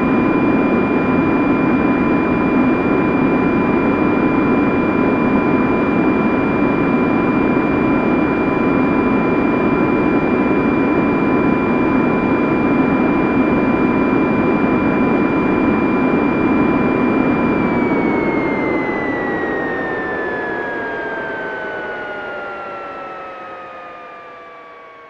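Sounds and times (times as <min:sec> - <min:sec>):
aircraft engines in flight: 0:00.0 - 0:25.0.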